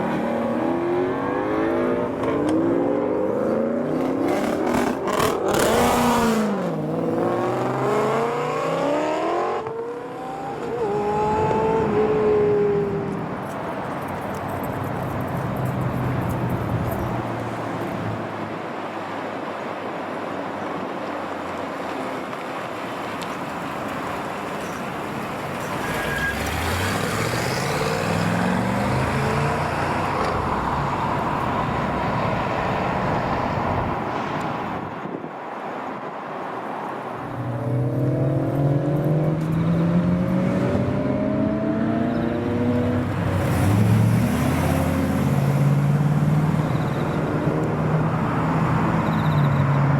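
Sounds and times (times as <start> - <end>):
car engines accelerating: 0.0 - 18.8, 21.5 - 34.9, 37.0 - 49.9
traffic noise: 0.0 - 49.9.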